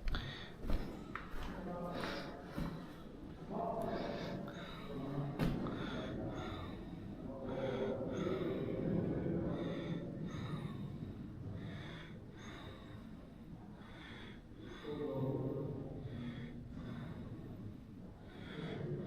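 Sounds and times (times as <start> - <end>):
person breathing hard: 0.0 - 19.0.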